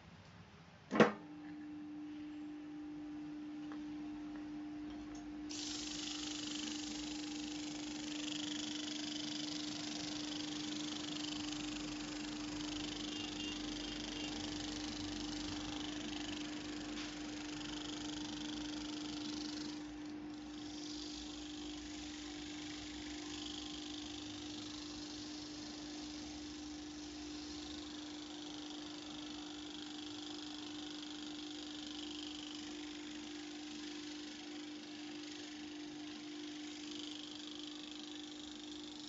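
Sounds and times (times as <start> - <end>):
electric motor humming: 2.7 - 39.0
abrasive cloth hissing on shaft: 5.5 - 39.0.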